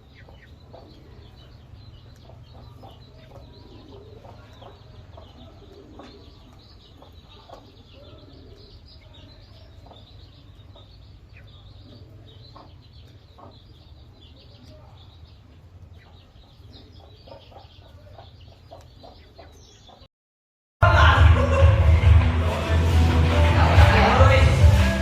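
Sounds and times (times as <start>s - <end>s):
chickens clucking: 0.0s - 20.1s.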